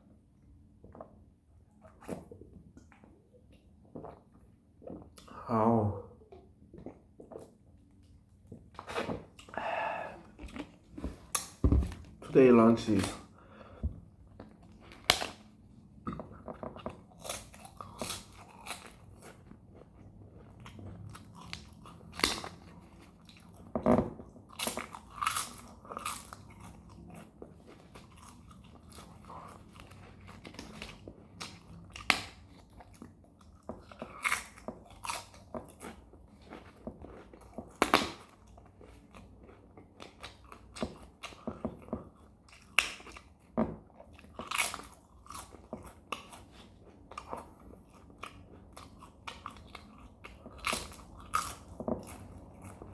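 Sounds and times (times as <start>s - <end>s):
soft chewing: 6.0s - 12.2s, 12.9s - 52.9s.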